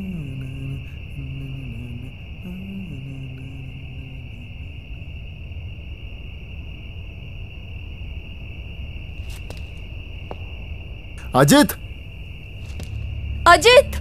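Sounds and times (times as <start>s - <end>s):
crickets trilling: 0.0s - 14.0s
low night rumble: 0.0s - 14.0s.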